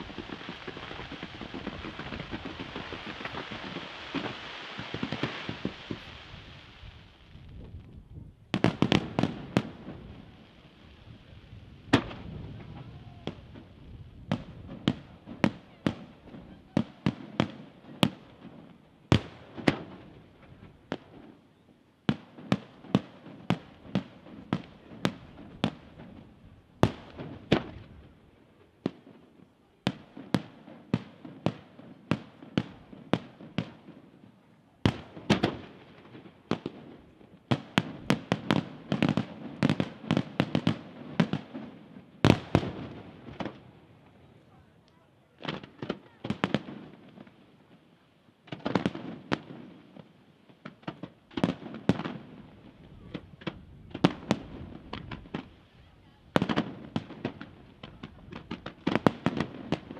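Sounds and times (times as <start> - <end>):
fireworks bursting: 0.0 - 59.9
fireworks crackling rumble: 0.0 - 59.9.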